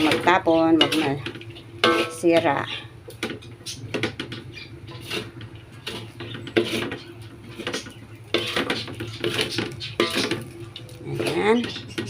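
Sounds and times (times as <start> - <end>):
spatula scraping frying pan: 0.0 - 12.0.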